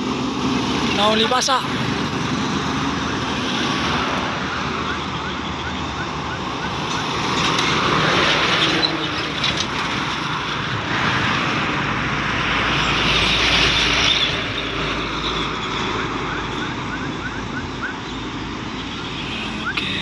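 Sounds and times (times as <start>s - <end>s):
low traffic rumble: 0.0s - 20.0s
motorcycles passing: 0.0s - 20.0s
trucks passing: 0.0s - 20.0s.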